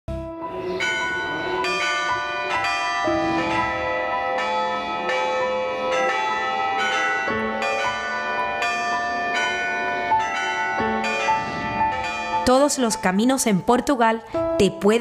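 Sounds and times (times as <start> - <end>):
church bells pealing: 0.3 - 14.0.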